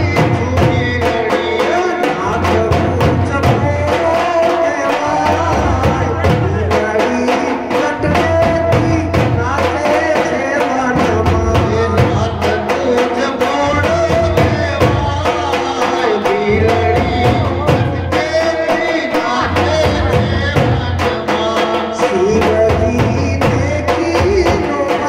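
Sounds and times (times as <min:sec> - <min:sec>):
steady drum beat: 0:00.0 - 0:25.0.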